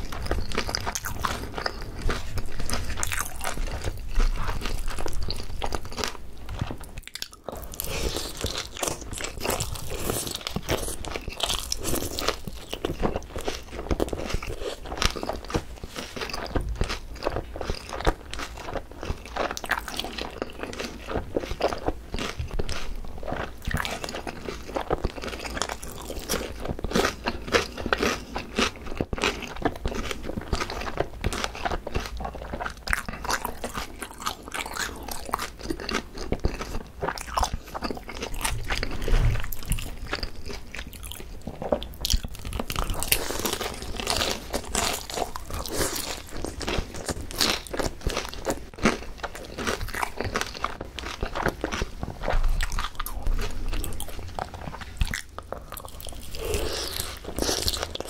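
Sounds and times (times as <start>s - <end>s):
crunchy chewing of fried chicken: 0.0s - 58.0s.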